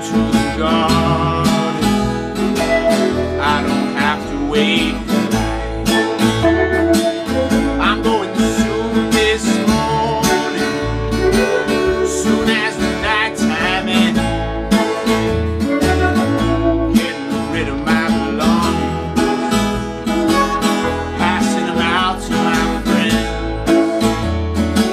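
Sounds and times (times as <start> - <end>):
bass: 0.0 - 24.9
electric guitar: 0.0 - 24.9
strummed acoustic guitar: 0.0 - 24.9
fiddle: 1.1 - 24.9.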